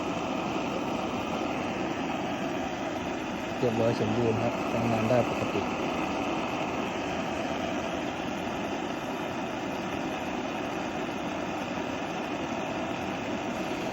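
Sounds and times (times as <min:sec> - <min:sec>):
oil stove hissing: 0:00.0 - 0:13.9.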